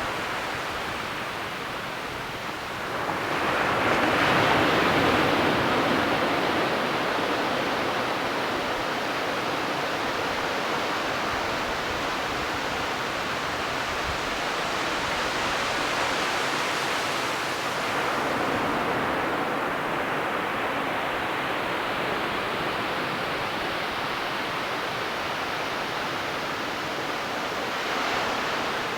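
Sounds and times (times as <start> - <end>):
ocean surf on beach: 0.0 - 28.9.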